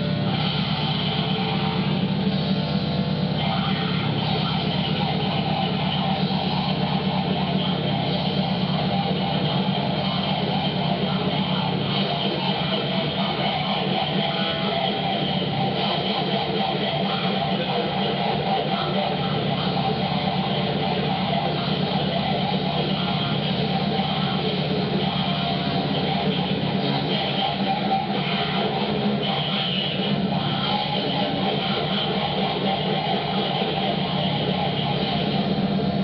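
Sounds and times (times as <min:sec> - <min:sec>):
harsh distorted noise music: 0:00.0 - 0:36.0
low hum: 0:00.0 - 0:36.0.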